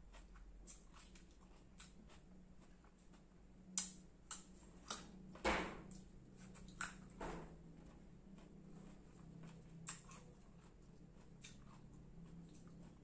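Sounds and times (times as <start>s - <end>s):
chewing crunchy mango: 0.0s - 5.2s, 5.9s - 13.0s.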